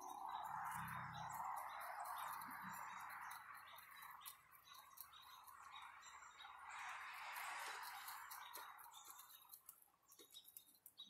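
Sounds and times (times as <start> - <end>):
deer crunching seed: 0.0 - 6.0, 6.7 - 11.0.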